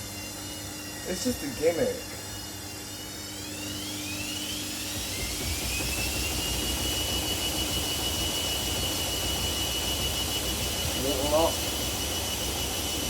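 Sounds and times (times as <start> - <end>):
washing machine motor whine: 0.0 - 13.0.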